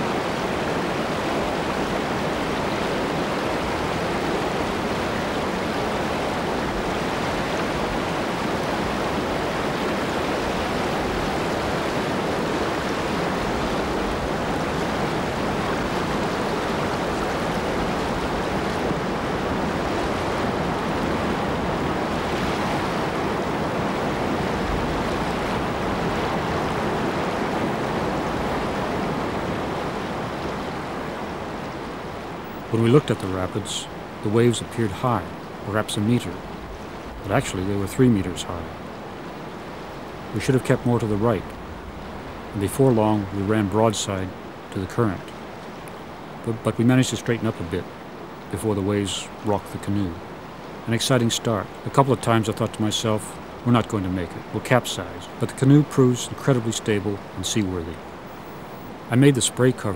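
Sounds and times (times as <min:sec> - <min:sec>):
river rapids rushing: 0:00.0 - 0:59.9.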